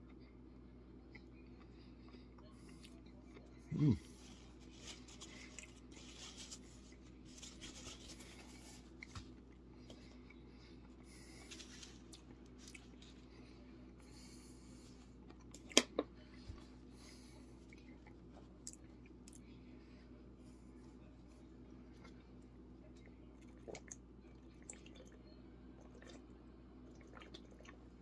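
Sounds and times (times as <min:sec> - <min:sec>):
person chewing food: 0:00.0 - 0:19.6, 0:21.9 - 0:28.0.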